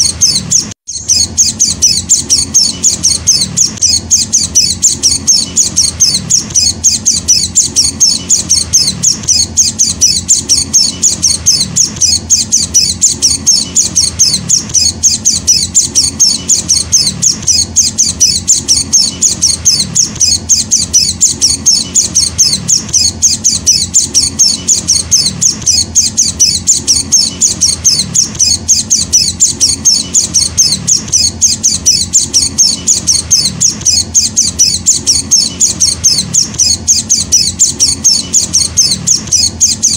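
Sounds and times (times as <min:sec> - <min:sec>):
bird chick chirping: 0:00.0 - 0:39.9.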